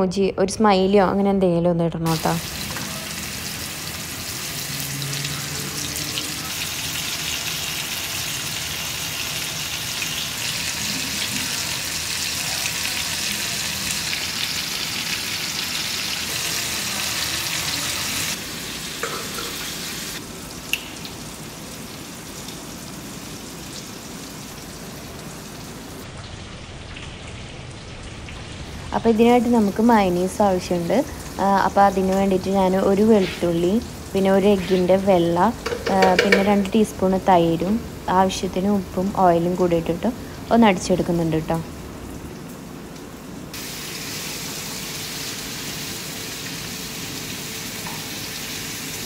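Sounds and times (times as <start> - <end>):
chicken sizzling in oil: 2.1 - 38.2, 43.5 - 49.0.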